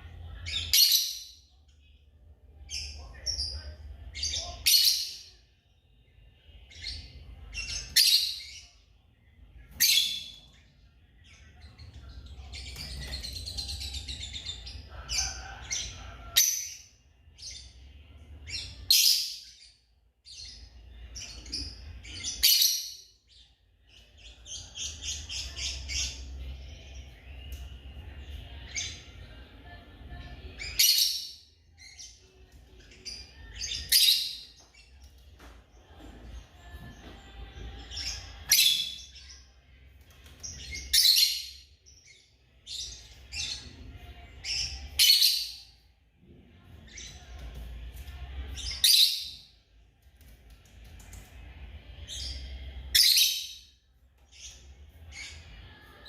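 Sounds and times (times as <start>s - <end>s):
birds chirping and squawking: 0.0s - 56.0s.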